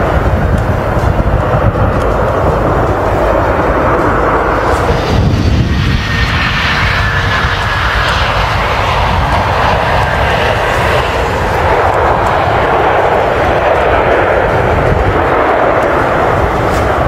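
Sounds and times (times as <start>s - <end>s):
jet engines roaring at full power: 0.0s - 17.0s.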